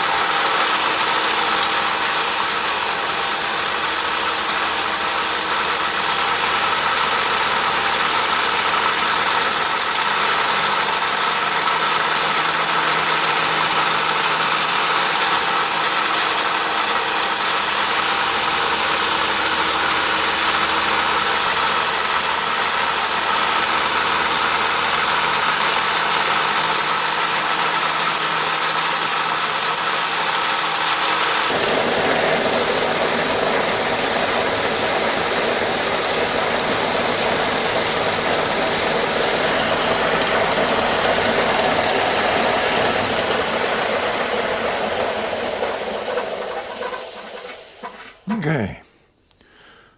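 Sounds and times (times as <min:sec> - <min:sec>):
woodworking power tool running: 0:00.0 - 0:48.0.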